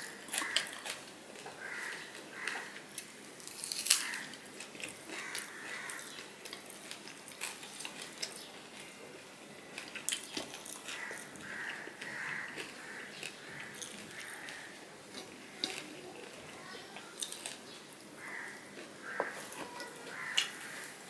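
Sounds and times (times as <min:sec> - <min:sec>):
man chewing with wet mouth sounds: 0:00.0 - 0:21.0.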